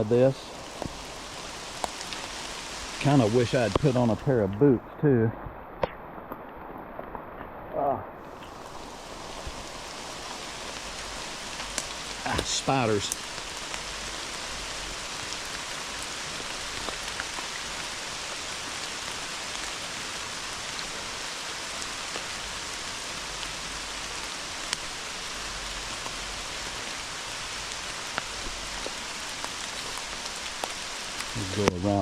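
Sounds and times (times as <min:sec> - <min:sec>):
heavy rain falling: 0:00.0 - 0:32.0
rain drops ticking: 0:00.0 - 0:32.0.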